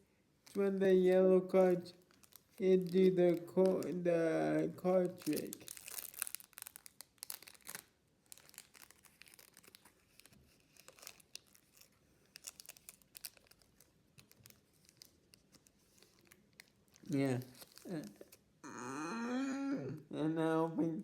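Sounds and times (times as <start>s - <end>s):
foil wrapper crinkling: 0.4s - 18.4s
trading cards rustling: 0.4s - 18.4s.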